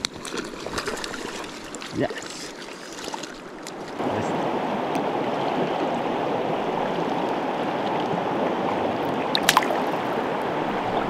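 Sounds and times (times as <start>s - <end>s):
river water over rocks: 0.0s - 11.0s.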